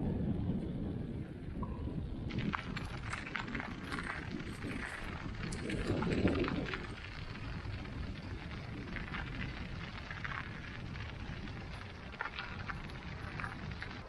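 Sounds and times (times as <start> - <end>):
bike tyres rolling on snow: 0.0 - 14.0
snow crunching clicks: 2.3 - 14.0.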